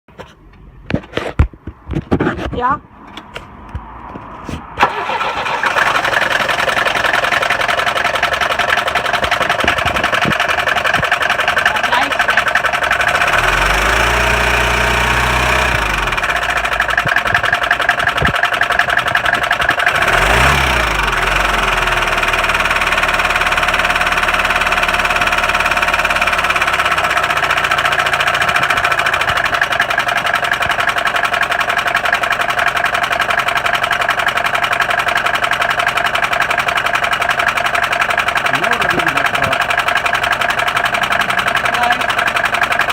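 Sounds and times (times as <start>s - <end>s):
diesel engine clattering: 4.8s - 42.9s.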